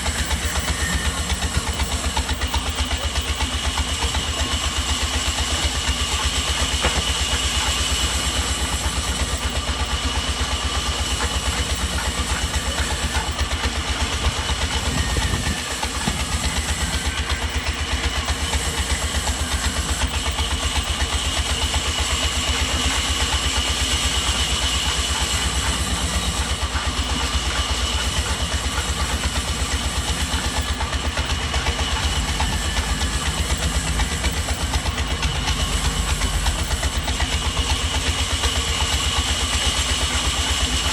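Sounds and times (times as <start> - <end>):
constant high whine: 0.0 - 40.9
sawmill machinery rumbling: 0.0 - 40.9.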